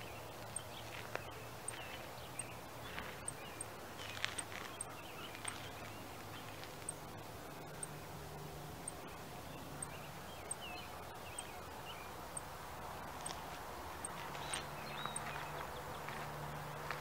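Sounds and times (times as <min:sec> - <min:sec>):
low steady hum: 0:00.0 - 0:16.8
birds chirping: 0:00.0 - 0:17.0.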